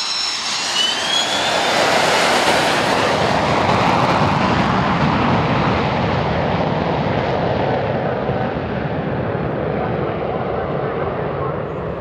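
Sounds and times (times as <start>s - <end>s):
jet engines passing low: 0.0s - 12.0s.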